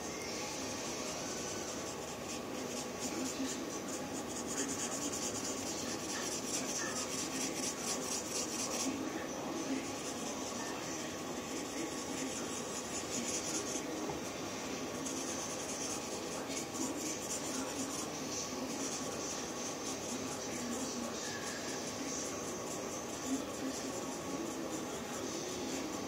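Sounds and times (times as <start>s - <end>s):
pen scribbling on paper: 0.9s - 26.0s.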